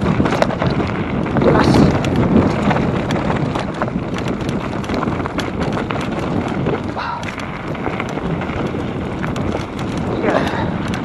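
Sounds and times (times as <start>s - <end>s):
bike frame and chain clattering: 0.0s - 11.0s
wind on microphone: 0.0s - 11.0s.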